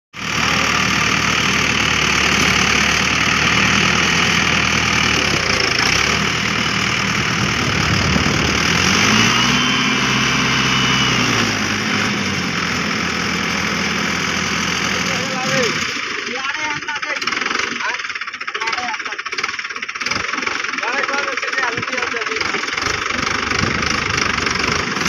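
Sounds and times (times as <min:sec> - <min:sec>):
tractor engine running: 0:00.1 - 0:25.0.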